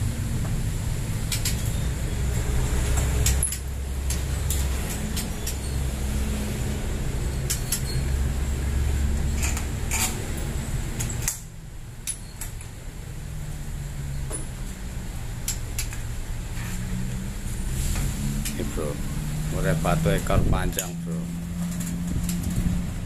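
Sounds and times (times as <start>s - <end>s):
low motor hum: 0.0s - 23.0s.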